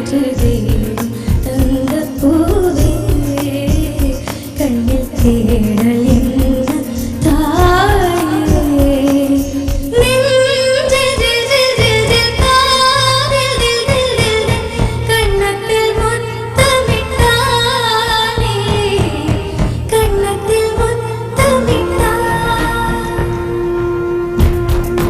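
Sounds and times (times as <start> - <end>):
girl singing: 0.0 - 23.8
backing band with drum beat: 0.0 - 25.0.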